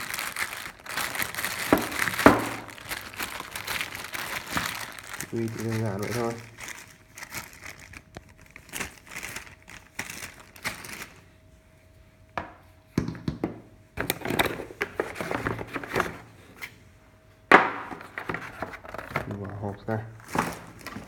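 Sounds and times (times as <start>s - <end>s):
packaging rustling and scraping: 0.0s - 11.3s, 14.0s - 16.7s, 17.6s - 21.0s.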